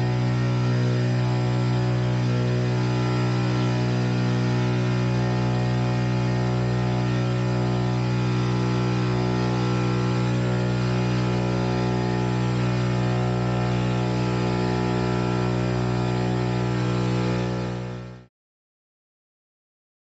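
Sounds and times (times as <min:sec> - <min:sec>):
electric propeller drone: 0:00.0 - 0:18.3.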